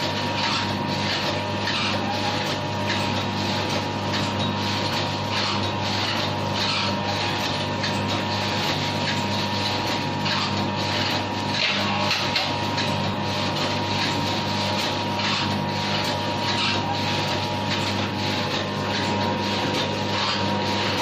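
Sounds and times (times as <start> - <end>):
packing machine motor hum: 0.0 - 21.0.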